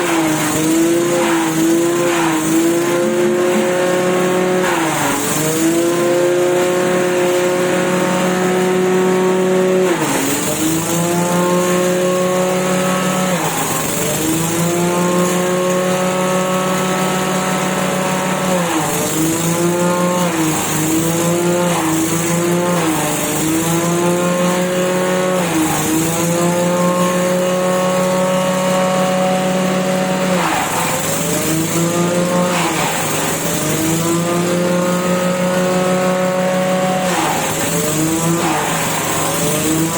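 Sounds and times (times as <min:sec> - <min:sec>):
grass chopper engine bogging: 0:00.0 - 0:39.9.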